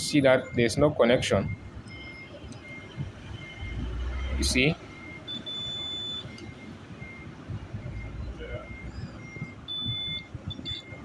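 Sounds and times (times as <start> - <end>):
faint low repeating beep: 0.0 - 11.0
multimeter continuity beep: 0.4 - 11.0.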